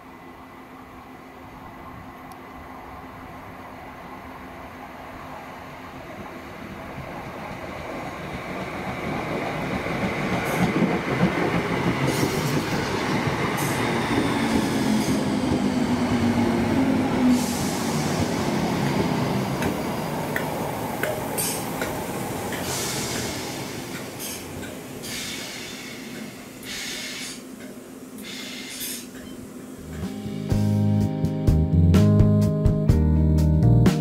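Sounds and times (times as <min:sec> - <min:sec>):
train running past: 0:00.0 - 0:31.7.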